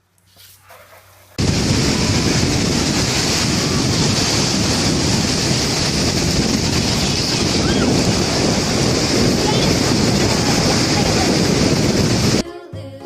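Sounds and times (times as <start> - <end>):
loud rushing noise: 1.4 - 12.4.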